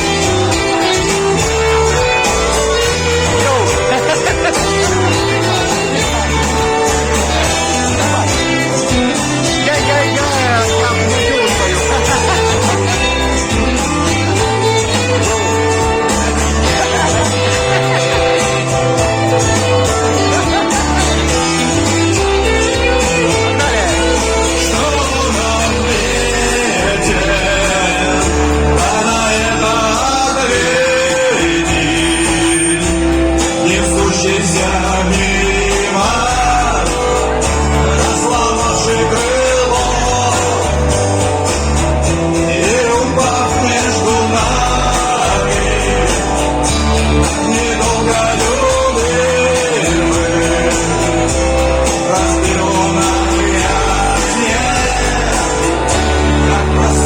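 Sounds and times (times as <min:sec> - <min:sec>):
guitar accompaniment: 0:00.0 - 0:57.0
person singing rock song: 0:00.0 - 0:57.0.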